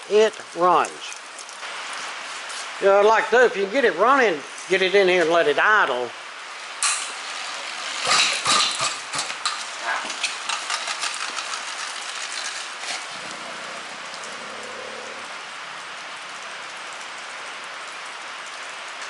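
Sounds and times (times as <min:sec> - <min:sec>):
rain hiss: 0:00.0 - 0:19.0.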